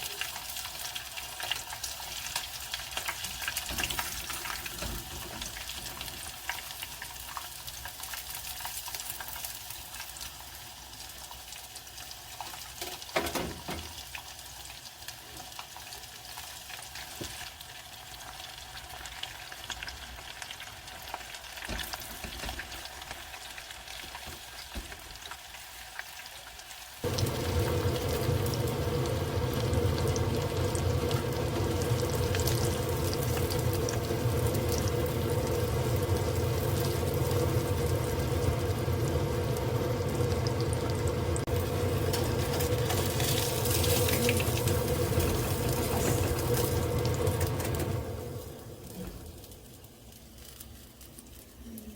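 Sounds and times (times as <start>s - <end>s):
chicken frying in hot oil: 0.0s - 51.9s.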